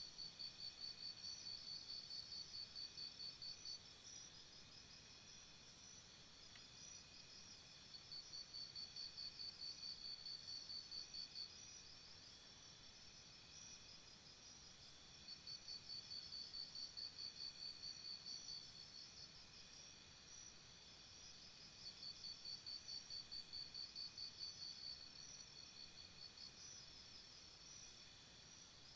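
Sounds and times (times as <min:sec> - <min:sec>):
cricket chirping: 0:00.0 - 0:28.9.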